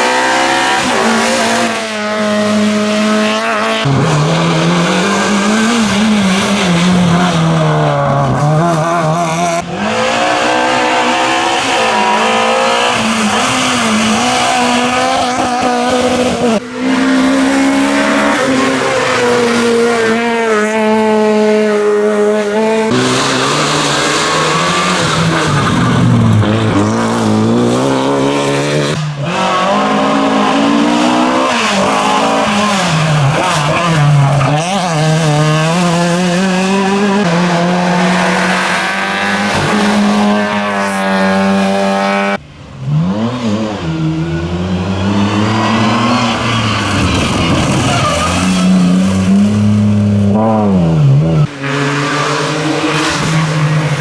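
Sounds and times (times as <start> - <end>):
rally car engines at full throttle: 0.0 - 54.0.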